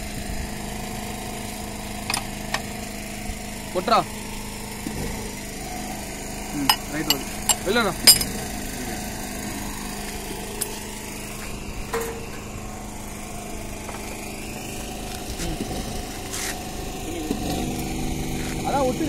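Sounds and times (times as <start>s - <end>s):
small engine humming: 0.0s - 19.0s.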